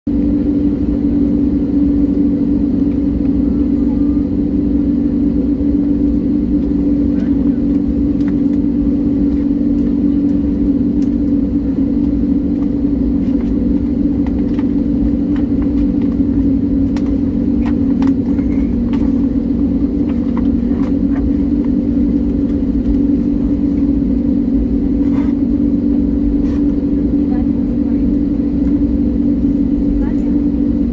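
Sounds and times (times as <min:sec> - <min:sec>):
airliner cabin drone: 0:00.1 - 0:30.9.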